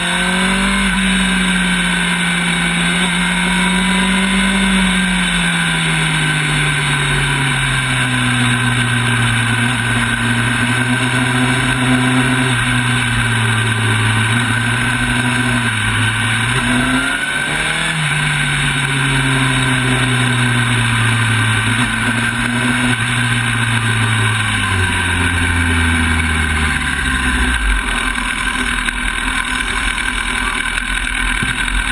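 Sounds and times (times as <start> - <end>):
motorcycle engine decelerating: 0.0 - 31.9.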